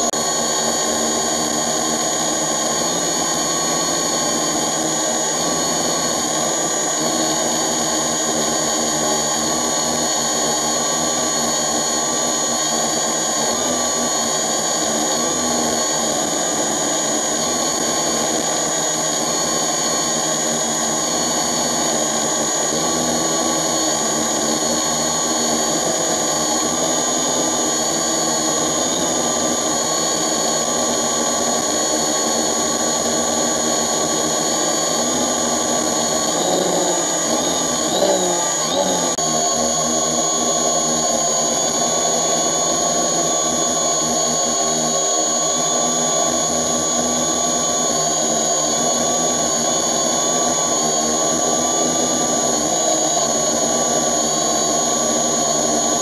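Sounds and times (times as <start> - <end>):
drone propellers buzzing whine: 0.0 - 56.0.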